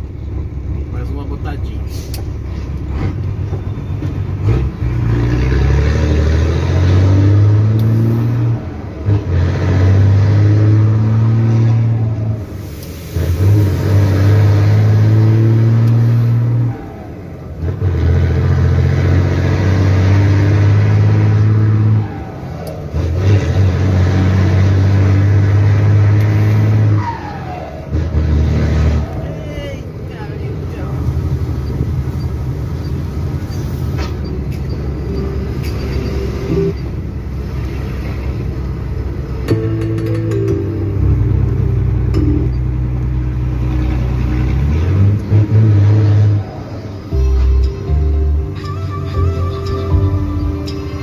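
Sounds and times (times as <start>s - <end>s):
diesel truck engine under load: 0.0s - 51.0s.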